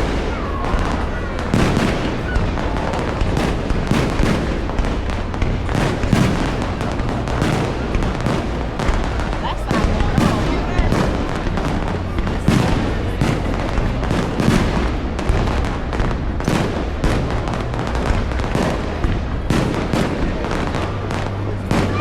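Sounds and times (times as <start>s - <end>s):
continuous rumble: 0.0s - 22.0s
fireworks booms and cracks: 0.0s - 22.0s.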